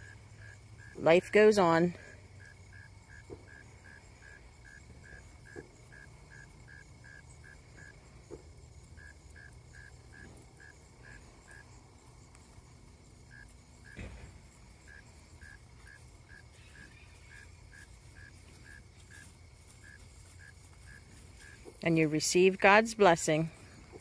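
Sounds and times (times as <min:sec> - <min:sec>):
faint insect chirping: 0:00.0 - 0:24.0.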